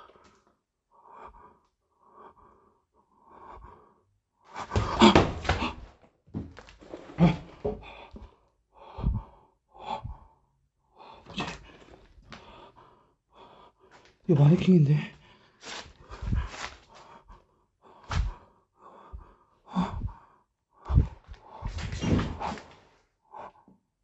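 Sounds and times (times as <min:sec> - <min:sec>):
person breathing: 0:00.0 - 0:05.8, 0:06.9 - 0:23.8.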